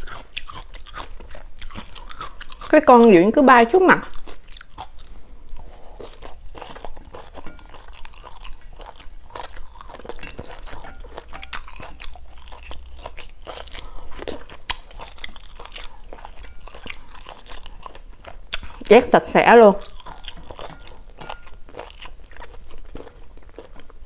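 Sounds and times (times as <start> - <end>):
person chewing crunchy food: 0.0 - 2.8, 4.0 - 19.1, 19.7 - 24.0.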